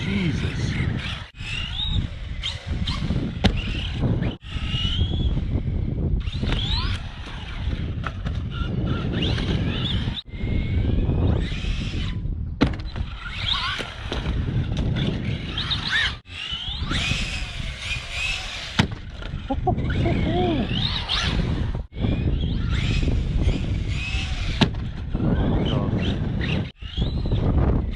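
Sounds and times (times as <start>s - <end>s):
electric motor whining: 0.0s - 27.9s.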